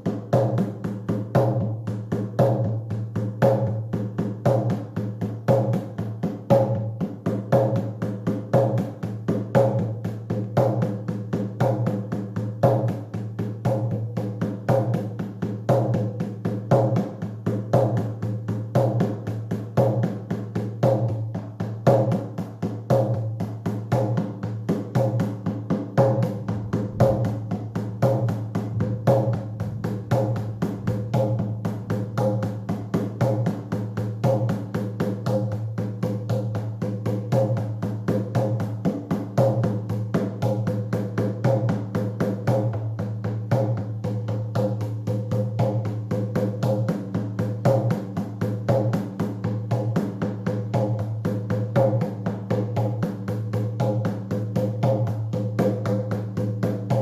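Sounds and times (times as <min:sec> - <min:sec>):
hand drum beaten fast: 0:00.0 - 0:57.0.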